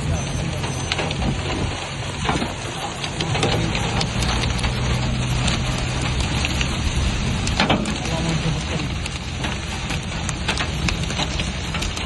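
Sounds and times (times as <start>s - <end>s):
heavy rain pouring: 0.0s - 12.0s
raindrops tapping hard surface: 0.0s - 12.0s.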